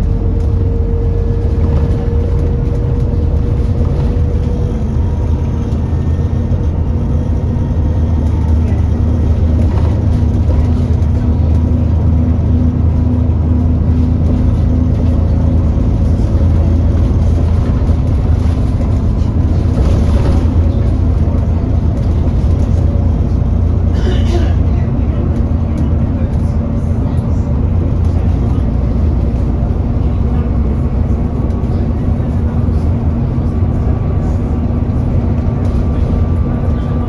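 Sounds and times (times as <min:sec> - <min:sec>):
bus engine drone: 0:00.0 - 0:37.0.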